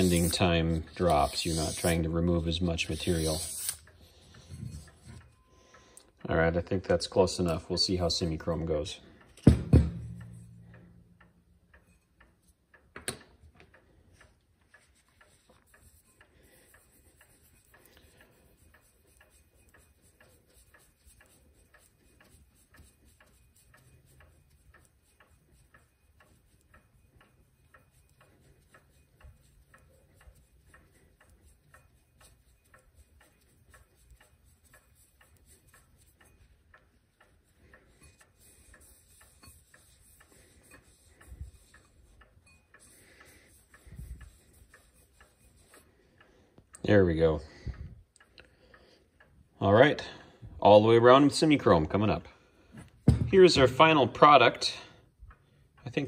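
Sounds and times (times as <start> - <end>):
mechanical clock ticking: 0.0 - 9.4, 10.0 - 51.6.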